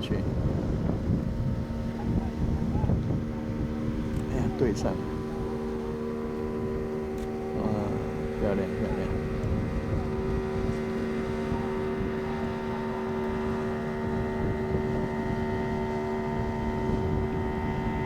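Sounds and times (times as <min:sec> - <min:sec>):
boat engine droning: 0:00.0 - 0:18.0
wind on microphone: 0:00.0 - 0:18.0.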